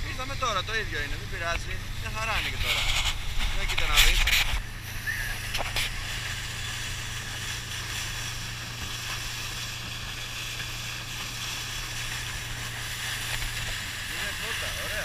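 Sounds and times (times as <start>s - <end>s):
motorboat engine drone: 0.0s - 15.0s
spray and rushing air: 0.2s - 15.0s.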